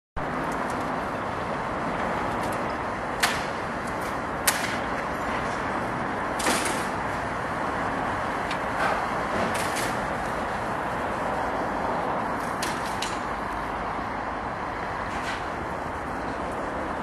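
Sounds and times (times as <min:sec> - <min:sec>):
outdoor background rumble: 0:00.2 - 0:17.0.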